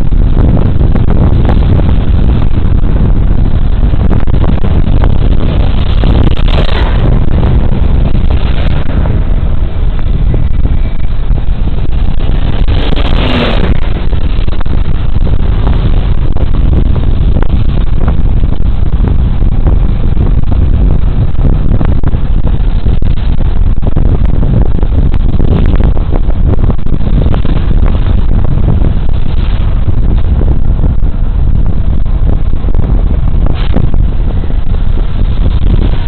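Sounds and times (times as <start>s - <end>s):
wind rush and road noise: 0.0s - 36.0s.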